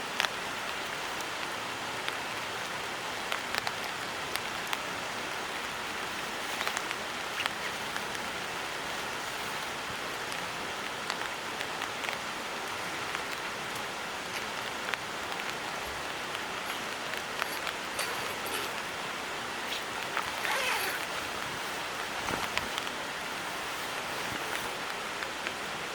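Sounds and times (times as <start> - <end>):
raindrops ticking on surfaces: 0.0 - 25.9
steady rain hiss: 0.0 - 25.9.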